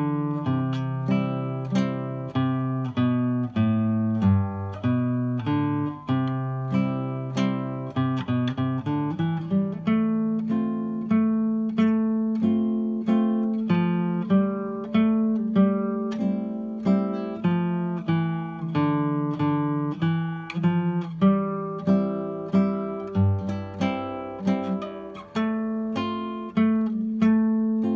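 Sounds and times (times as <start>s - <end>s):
classical guitar melody: 0.0s - 27.9s.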